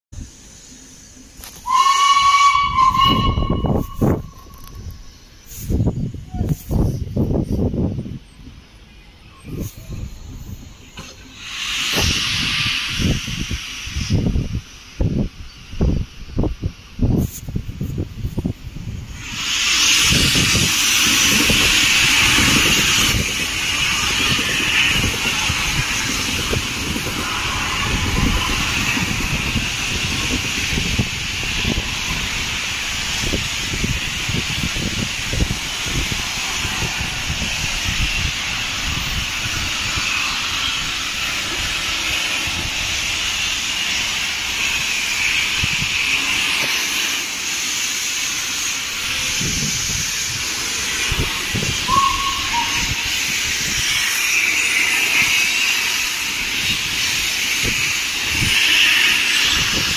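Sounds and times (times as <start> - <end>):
passenger train passing: 0.2 - 59.9
steam hissing from locomotive: 0.2 - 59.9.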